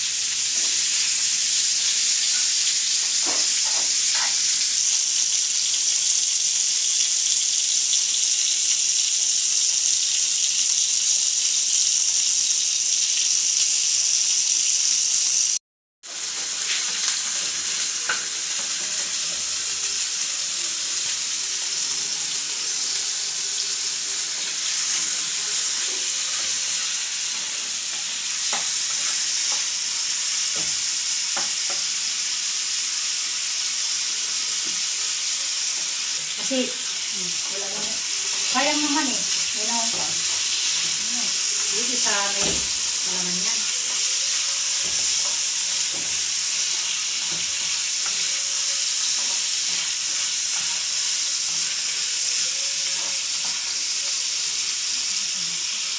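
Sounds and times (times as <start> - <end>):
chicken frying in hot oil: 0.0 - 55.9
meat sizzling in a pan: 0.0 - 55.9.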